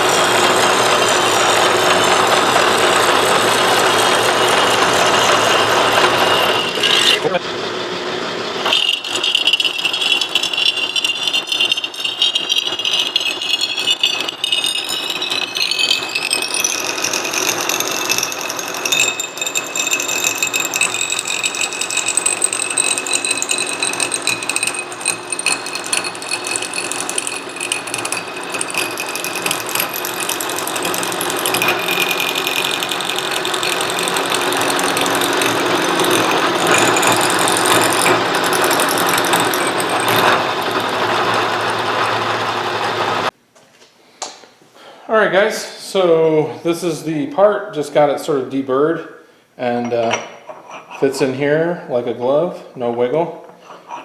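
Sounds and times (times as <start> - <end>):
grinding mechanical noise: 0.0 - 43.3
machine tool gear whine: 0.0 - 43.3.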